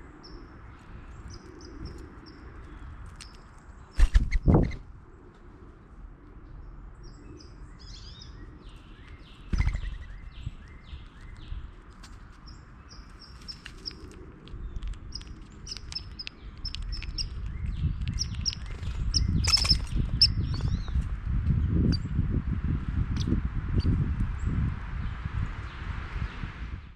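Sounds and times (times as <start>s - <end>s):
small birds chirping: 0.0s - 4.9s, 6.3s - 26.5s.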